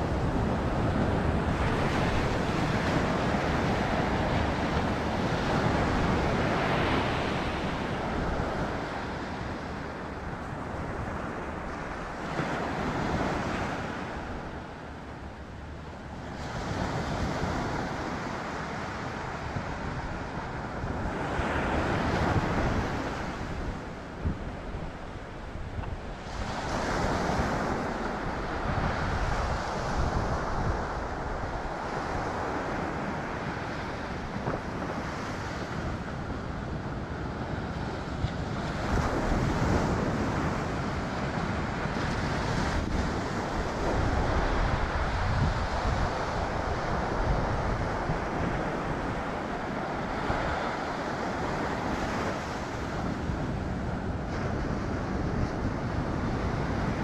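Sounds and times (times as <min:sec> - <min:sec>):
ocean surf washing in: 0:00.0 - 0:57.0
wind buffeting microphone: 0:00.0 - 0:57.0.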